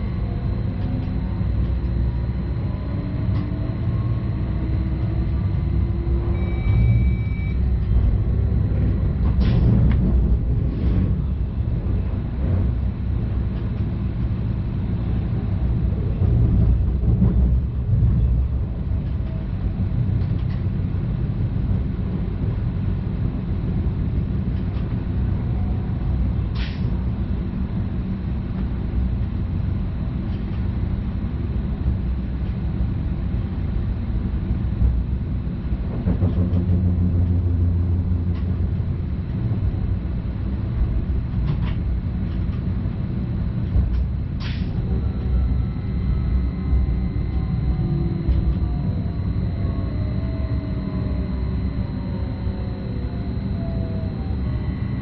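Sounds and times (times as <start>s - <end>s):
electric train low rumble: 0.0s - 55.0s.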